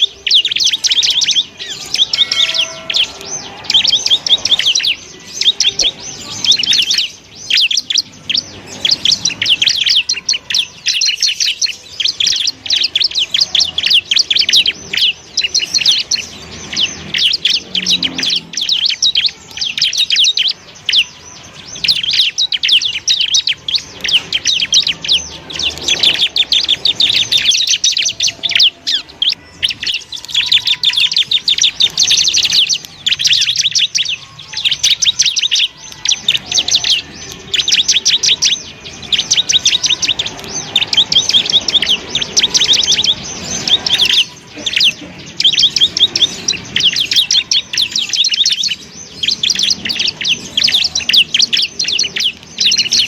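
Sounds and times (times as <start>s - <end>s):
bird chattering song: 0.0s - 53.0s.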